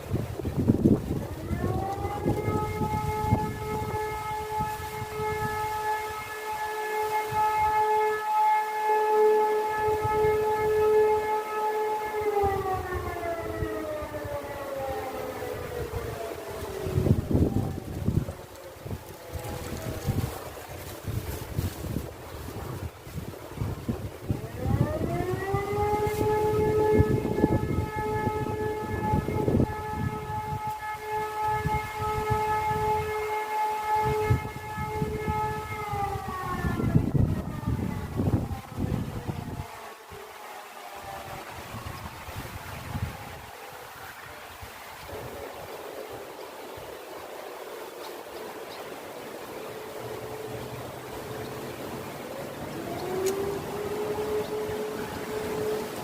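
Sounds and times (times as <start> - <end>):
electromechanical siren: 0.0 - 56.0
wind rumble on microphone: 0.0 - 56.0.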